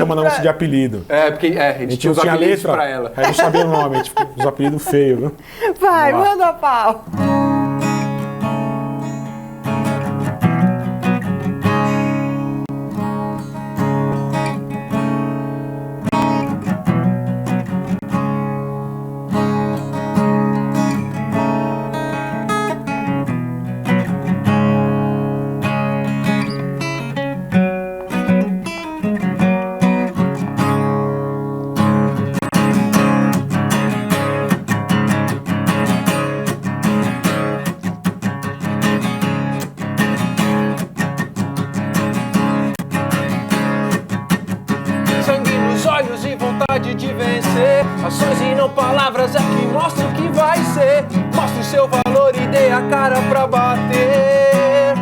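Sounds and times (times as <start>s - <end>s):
acoustic guitar strumming and picking: 5.8s - 55.0s.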